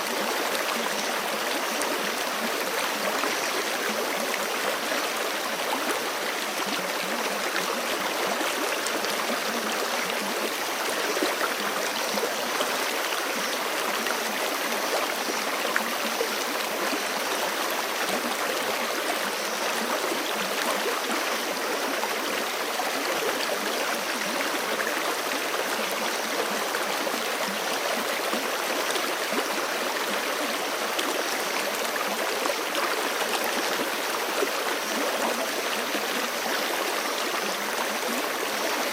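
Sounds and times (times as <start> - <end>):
creek flowing over rocks: 0.0 - 38.9.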